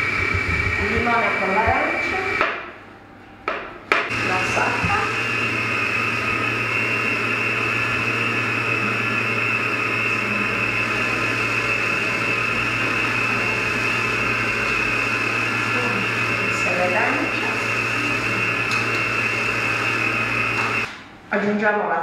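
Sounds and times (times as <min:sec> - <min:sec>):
stand mixer motor whining: 0:00.0 - 0:02.6, 0:04.0 - 0:21.0.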